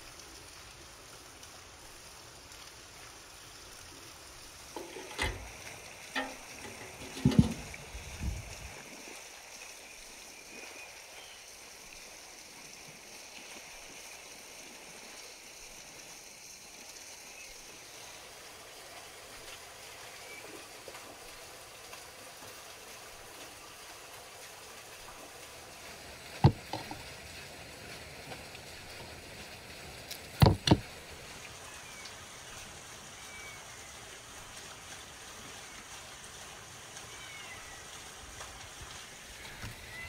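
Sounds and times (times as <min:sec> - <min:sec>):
faint watery hiss: 0:00.0 - 0:40.0.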